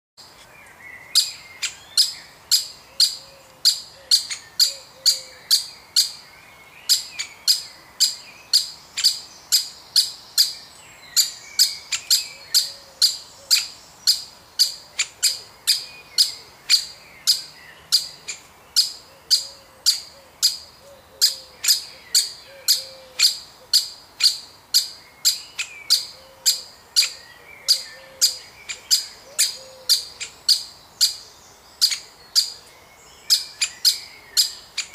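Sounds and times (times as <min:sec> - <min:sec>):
woodpecker calling: 0:01.1 - 0:06.2, 0:06.9 - 0:10.6, 0:11.2 - 0:32.7, 0:33.3 - 0:34.9.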